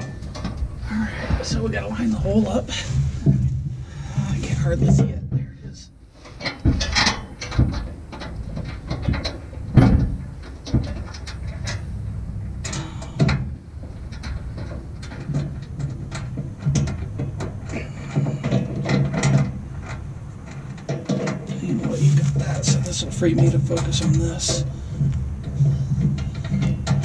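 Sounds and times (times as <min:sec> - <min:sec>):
metal clicks knocks and scrapes: 0:00.0 - 0:01.9, 0:02.8 - 0:27.0.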